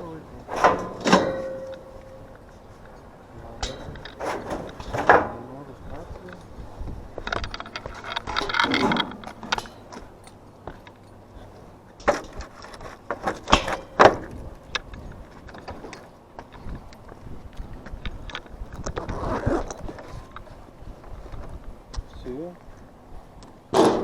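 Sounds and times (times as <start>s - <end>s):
scraping rattle: 0.0s - 22.4s
metal parts clicking and rattling: 0.4s - 20.6s.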